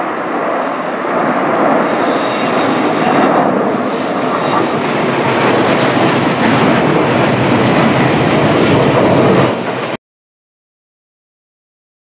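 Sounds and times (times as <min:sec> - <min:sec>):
jet engines on landing approach: 0:00.0 - 0:10.0.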